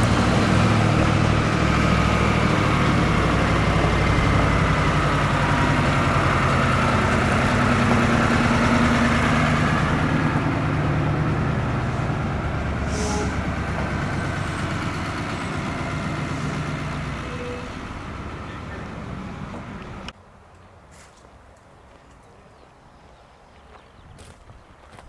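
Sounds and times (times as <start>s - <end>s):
diesel truck engine running: 0.0s - 20.2s.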